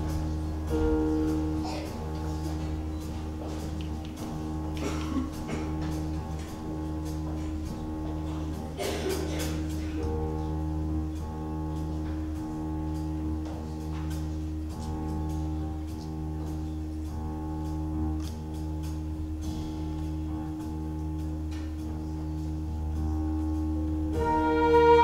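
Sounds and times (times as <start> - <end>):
ensemble holding low chord: 0.0 - 25.0.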